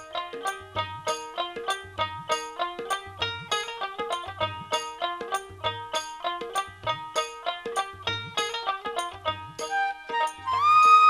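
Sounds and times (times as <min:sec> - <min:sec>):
plucked string instrument: 0:00.0 - 0:11.0
low drum beats: 0:00.1 - 0:09.7.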